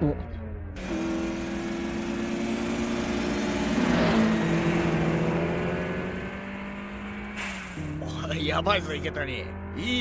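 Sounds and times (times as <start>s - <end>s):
car engines at high revs: 0.0s - 10.0s.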